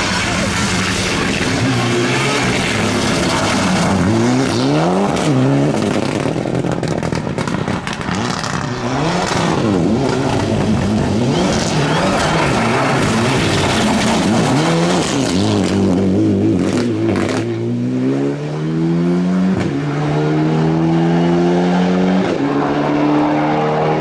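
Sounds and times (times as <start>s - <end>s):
car engine revving hard: 0.0s - 24.0s.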